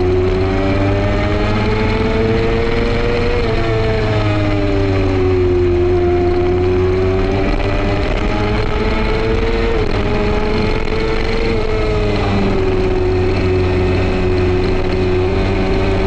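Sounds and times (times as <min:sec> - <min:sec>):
racing engine at speed: 0:00.0 - 0:16.0
wind rush over microphone: 0:00.0 - 0:16.0.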